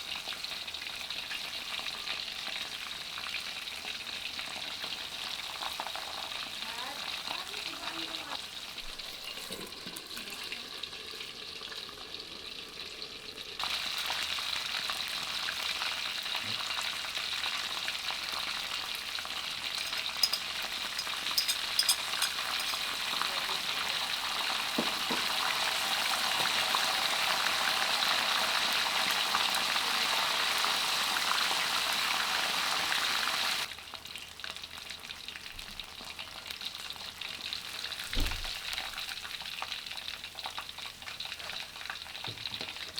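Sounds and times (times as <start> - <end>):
chicken deep-frying in oil: 0.0 - 42.9.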